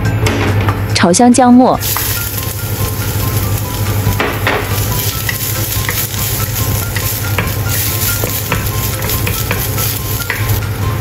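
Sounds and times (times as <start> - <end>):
wooden spatula scraping a pan: 1.8 - 10.8
ginger sizzling in hot oil: 1.8 - 11.0.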